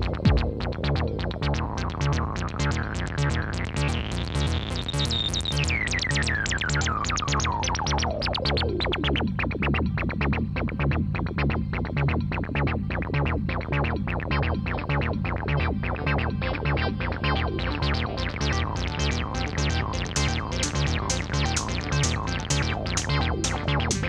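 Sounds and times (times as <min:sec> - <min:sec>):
repeating bass pulse: 0:00.0 - 0:24.0
synthesizer pulsing notes: 0:00.0 - 0:24.0.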